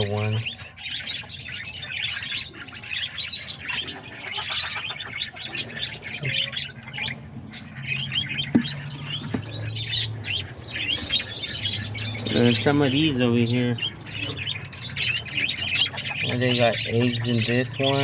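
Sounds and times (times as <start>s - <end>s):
parakeets chirping: 0.0s - 18.0s.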